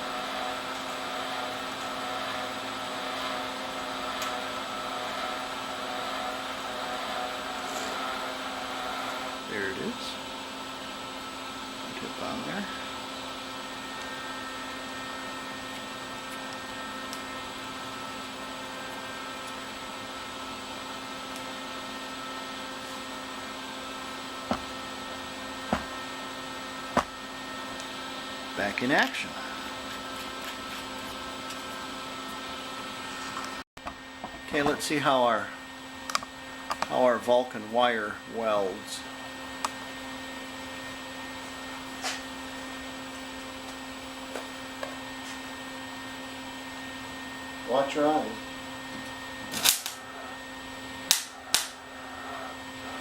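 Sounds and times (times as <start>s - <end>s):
mains buzz: 0.0s - 53.0s
welder fan hum: 0.0s - 53.0s.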